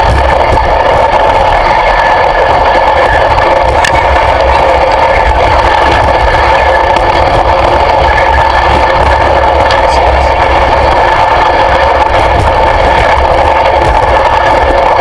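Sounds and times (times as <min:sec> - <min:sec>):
engine running loudly: 0:00.0 - 0:15.0.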